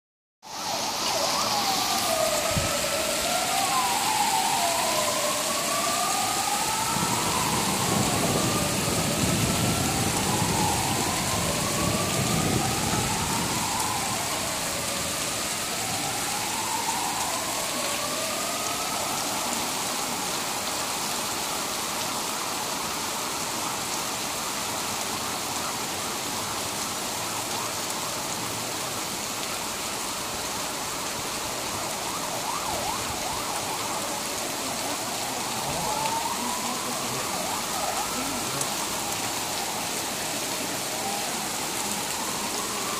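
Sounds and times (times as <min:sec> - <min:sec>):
heavy rain hissing: 0:00.4 - 0:20.4, 0:25.1 - 0:42.9
emergency vehicle siren wailing: 0:00.4 - 0:42.9.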